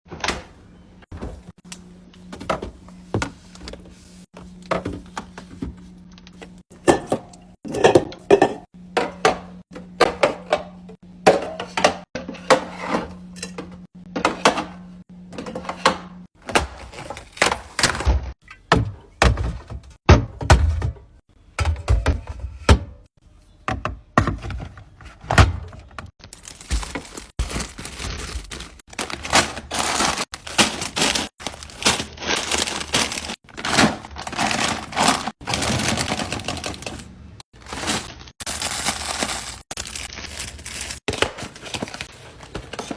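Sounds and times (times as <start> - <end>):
fridge low hum: 0.1 - 42.9.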